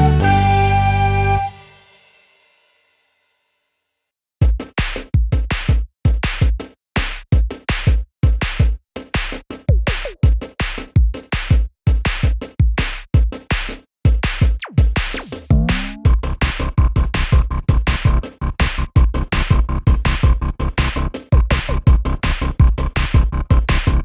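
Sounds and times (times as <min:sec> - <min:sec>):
electronic music with drum beat: 0:04.4 - 0:24.0.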